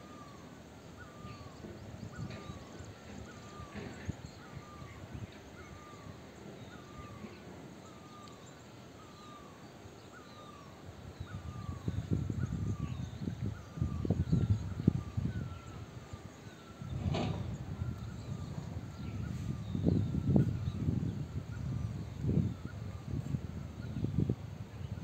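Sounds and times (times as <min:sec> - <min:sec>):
faint chirps of other birds: 0:00.0 - 0:25.0.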